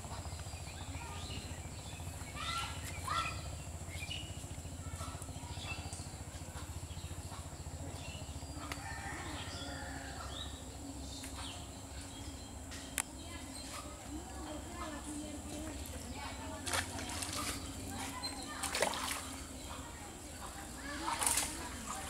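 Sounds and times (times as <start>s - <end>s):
birds chirping and calling: 0.0s - 22.0s
steady low hum: 0.0s - 22.0s.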